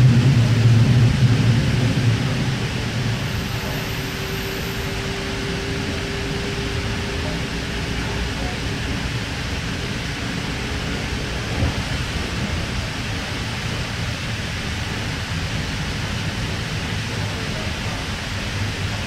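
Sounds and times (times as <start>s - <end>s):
train rumble and hiss: 0.0s - 19.0s
wheels on track: 0.0s - 19.0s.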